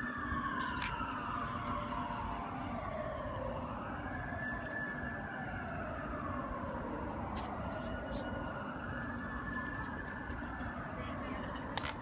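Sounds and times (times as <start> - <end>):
ambulance siren wailing: 0.0 - 12.0.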